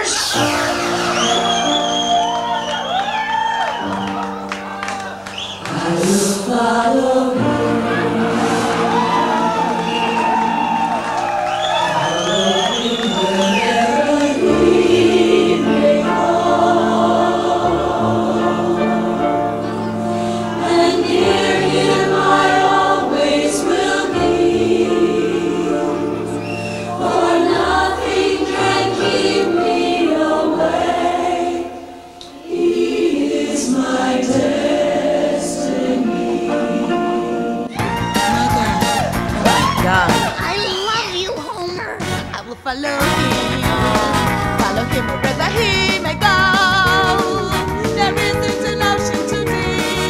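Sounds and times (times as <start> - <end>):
choir singing long notes: 0.0 - 40.3, 43.1 - 44.6, 45.6 - 50.0.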